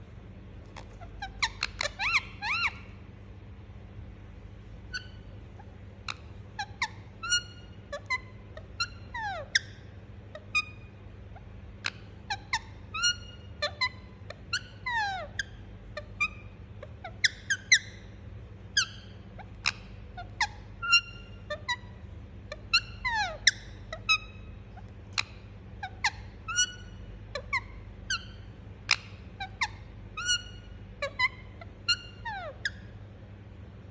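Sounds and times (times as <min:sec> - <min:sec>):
steady low hum: 0:00.0 - 0:33.9
parakeet chirping: 0:00.6 - 0:03.0, 0:04.6 - 0:33.2.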